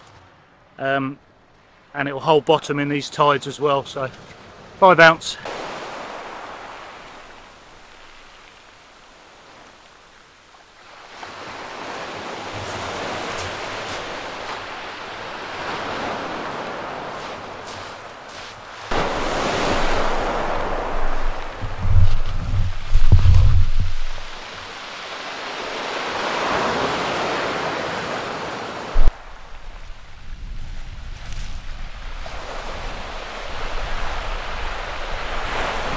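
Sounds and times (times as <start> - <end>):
waves washing on shingle: 3.9 - 35.9.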